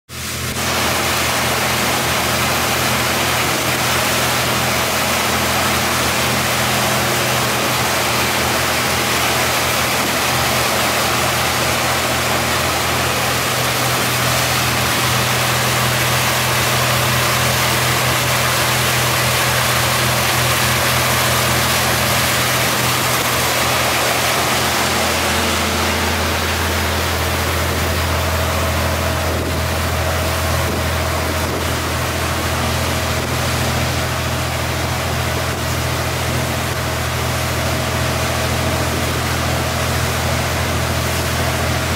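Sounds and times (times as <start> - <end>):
churning wake water: 0.1 - 41.9
motorboat engine running: 0.1 - 41.9.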